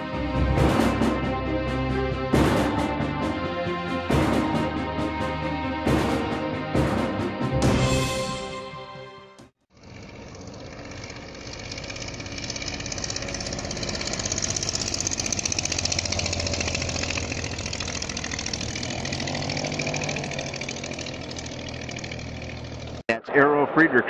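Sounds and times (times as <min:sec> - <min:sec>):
propeller aircraft engine drone: 0:00.0 - 0:07.5, 0:09.7 - 0:23.0.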